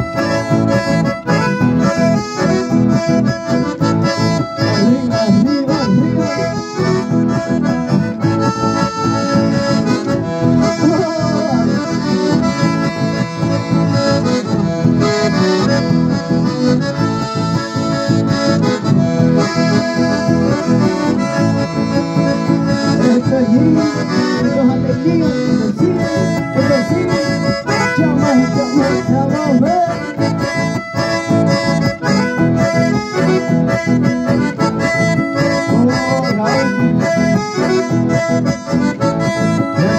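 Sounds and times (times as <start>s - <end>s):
accordion dance music: 0.0s - 39.9s.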